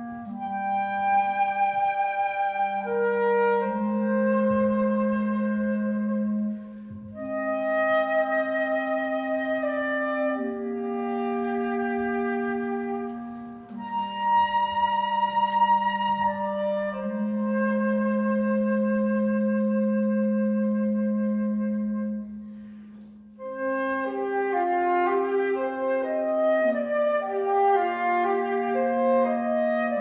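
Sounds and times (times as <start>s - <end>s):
woodwind trio playing chords: 0.0s - 30.0s.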